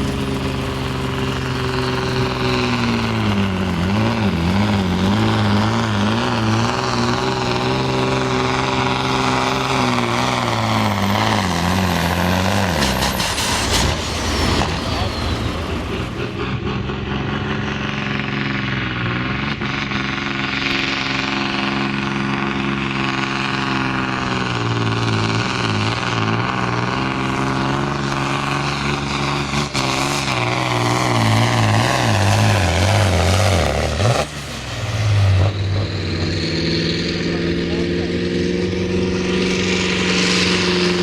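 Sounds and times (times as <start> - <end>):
diesel engine under load: 0.0 - 41.0.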